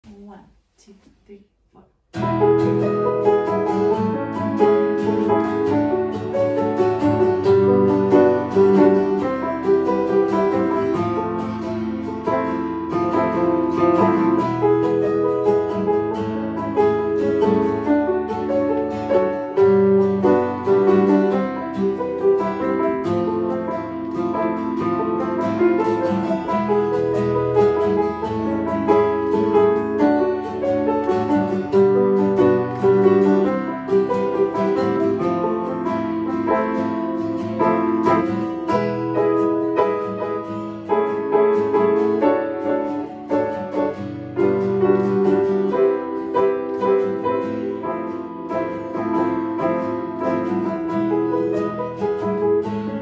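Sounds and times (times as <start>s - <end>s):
acoustic guitar: 2.1s - 53.0s
grand piano: 2.2s - 53.0s.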